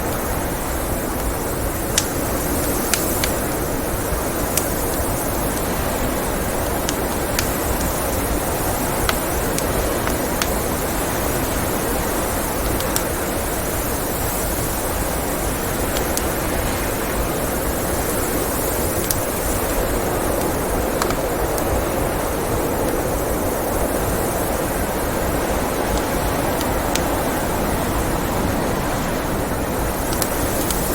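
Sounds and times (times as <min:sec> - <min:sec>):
blizzard wind: 0:00.0 - 0:30.9
wood fire crackling: 0:00.0 - 0:30.9.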